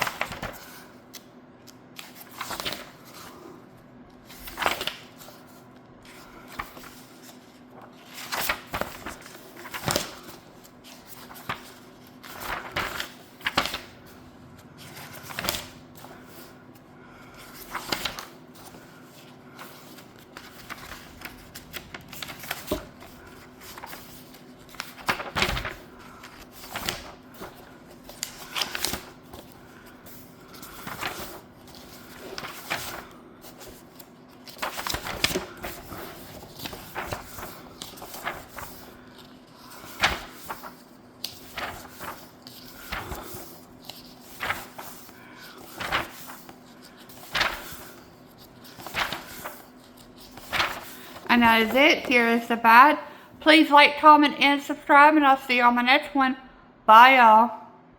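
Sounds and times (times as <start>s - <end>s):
paper pages turning: 0.0s - 3.5s, 4.1s - 52.5s.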